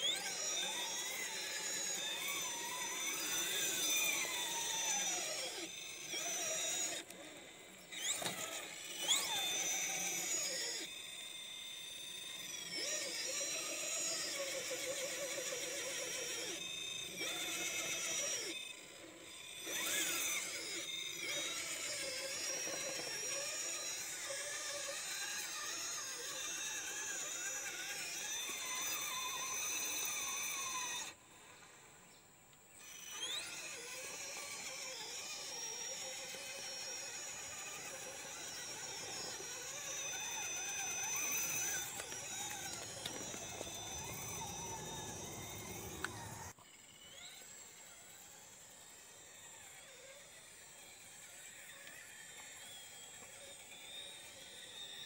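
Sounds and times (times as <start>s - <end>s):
electric motor whining: 0.0s - 55.0s.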